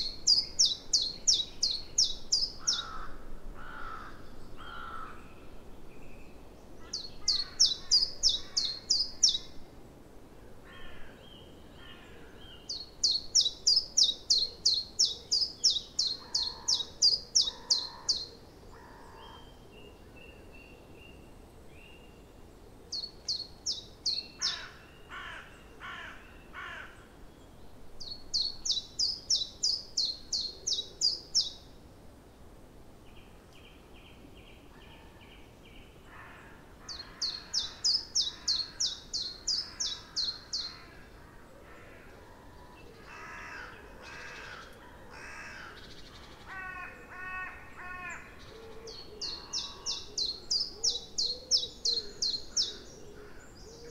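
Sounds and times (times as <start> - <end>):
bird singing loud high song: 0.0 - 3.1, 4.2 - 9.6, 11.1 - 31.8, 33.0 - 41.0, 45.7 - 53.9
birds calling quietly: 0.0 - 5.6, 6.8 - 9.6, 10.7 - 20.8, 22.3 - 31.7, 33.2 - 53.9.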